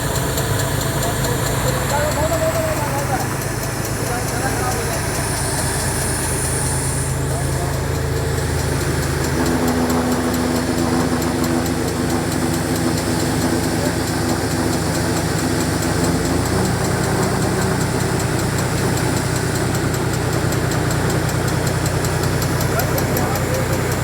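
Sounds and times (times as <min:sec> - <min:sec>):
flour mill machine hum: 0:00.0 - 0:24.0
tractor engine running: 0:00.0 - 0:24.0.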